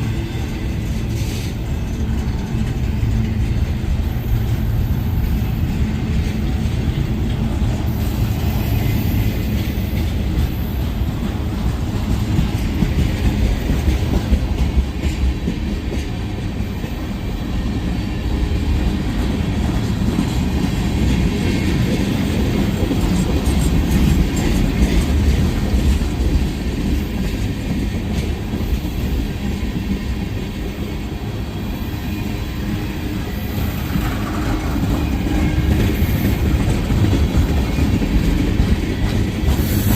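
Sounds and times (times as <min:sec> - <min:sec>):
freight train cars rolling: 0:00.0 - 0:39.9
steel wheels clattering on rails: 0:00.0 - 0:39.9.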